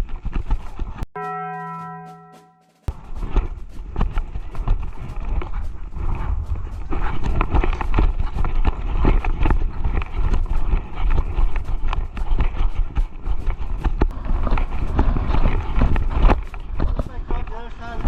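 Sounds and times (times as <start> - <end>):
footsteps: 0.0 - 18.0.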